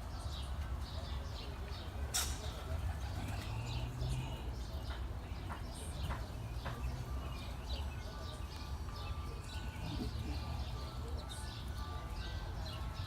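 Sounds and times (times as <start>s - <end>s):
nestling birds chirping: 0.0s - 13.0s.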